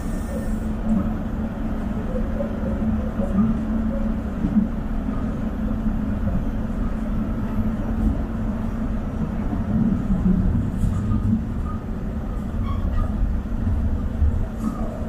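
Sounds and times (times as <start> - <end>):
light-rail train rumbling: 0.0 - 15.0.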